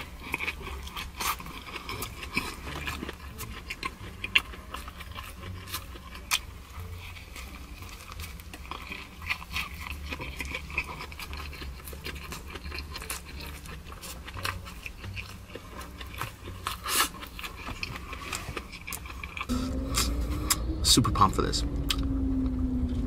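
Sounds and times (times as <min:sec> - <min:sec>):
wet chewing: 0:00.0 - 0:20.6
low steady hum: 0:00.0 - 0:23.0.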